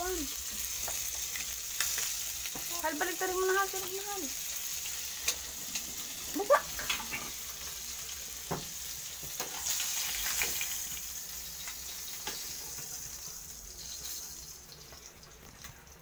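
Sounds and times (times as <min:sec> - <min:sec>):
fish sizzling in oil: 0:00.0 - 0:16.0.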